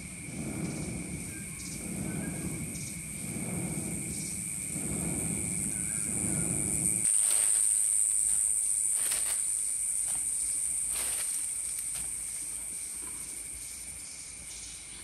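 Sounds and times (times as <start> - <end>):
low rumble of hand-cranked blower: 0.0 - 12.1
high insect drone: 0.0 - 15.0.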